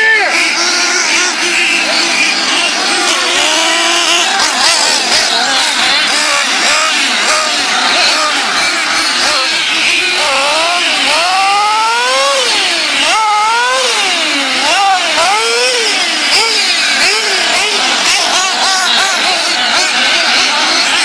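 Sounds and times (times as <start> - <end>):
racing engines revving: 0.0 - 21.0.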